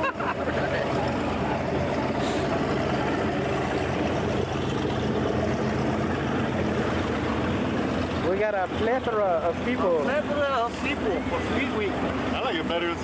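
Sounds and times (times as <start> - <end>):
boat engine humming: 0.0 - 13.0
water noise: 0.0 - 13.0.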